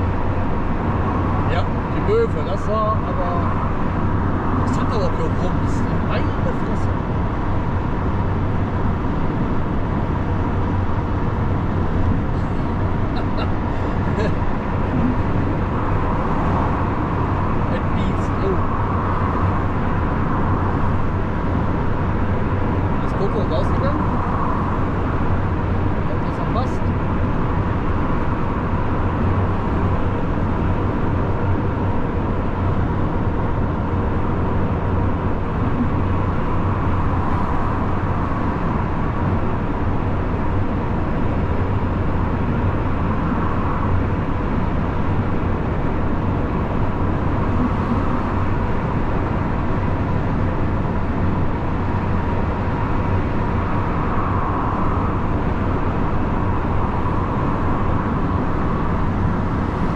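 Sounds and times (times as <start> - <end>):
lorry engine drone: 0.0 - 59.9
tyre and road noise: 0.0 - 59.9.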